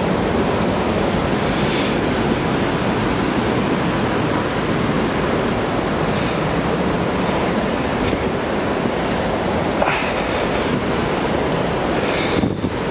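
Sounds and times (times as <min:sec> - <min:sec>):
fast-flowing water rushing: 0:00.0 - 0:12.9.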